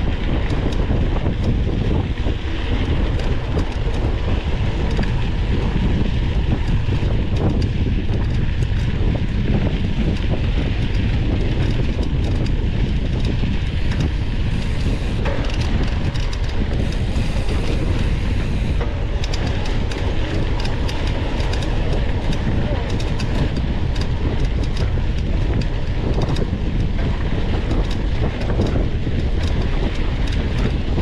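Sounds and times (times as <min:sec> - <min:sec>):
bike rolling over rough dirt: 0:00.0 - 0:31.0
wind buffeting microphone: 0:00.0 - 0:31.0.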